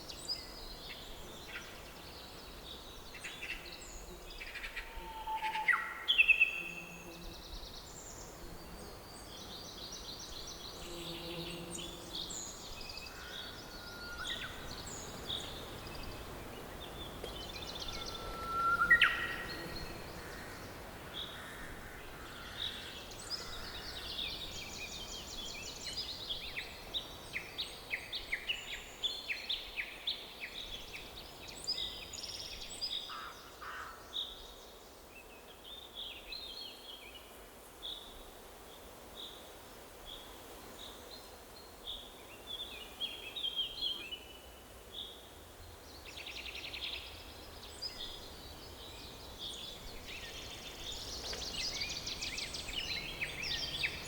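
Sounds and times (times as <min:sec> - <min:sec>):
songbirds chirping and trilling: 0:00.0 - 0:37.2, 0:40.9 - 0:54.0
faint background hiss: 0:00.0 - 0:54.0.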